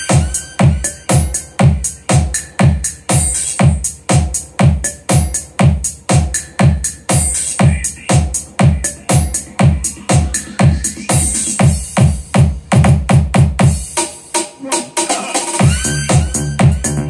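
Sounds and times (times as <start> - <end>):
electronic dance music: 0.0 - 17.0
deep kick drum: 0.1 - 13.9, 15.6 - 17.0.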